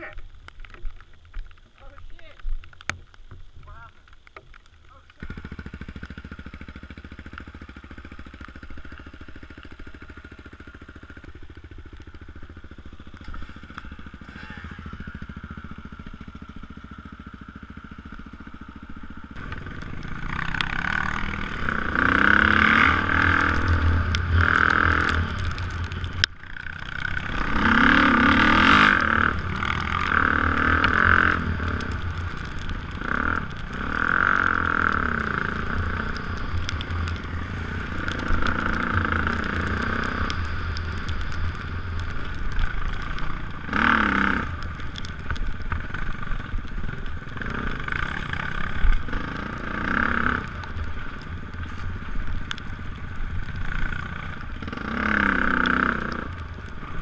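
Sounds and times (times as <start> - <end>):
dirt bike engine revving: 5.2 - 52.2, 53.4 - 57.0.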